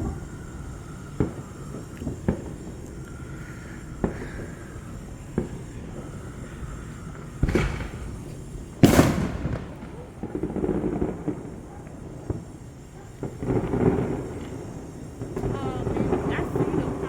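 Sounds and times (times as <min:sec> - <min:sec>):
firework bangs and pops: 0:00.0 - 0:17.0
firework crackle: 0:00.0 - 0:17.0.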